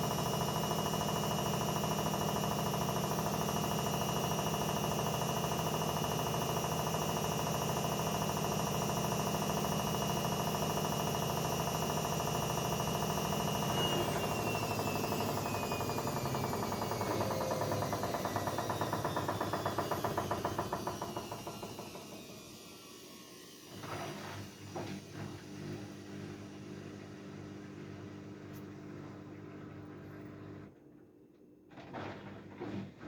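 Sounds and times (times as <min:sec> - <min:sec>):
washing machine motor whine: 0:00.0 - 0:30.8.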